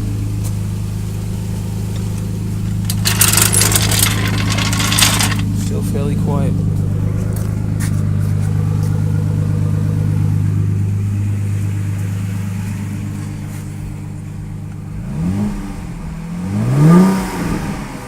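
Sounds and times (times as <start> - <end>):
car engine idling: 0.0 - 18.0
engine revving: 0.0 - 18.0.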